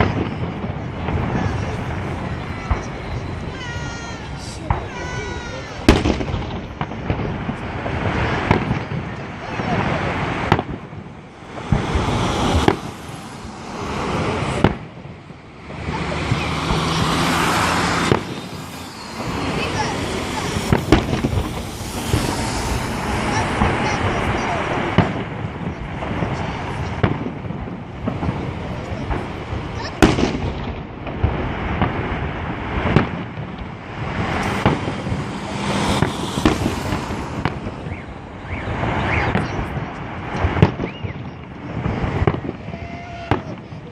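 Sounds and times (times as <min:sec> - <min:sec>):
fireworks bangs: 0:00.0 - 0:43.9
hissing crackling fireworks: 0:00.0 - 0:43.9
steady rumbling noise: 0:00.0 - 0:43.9.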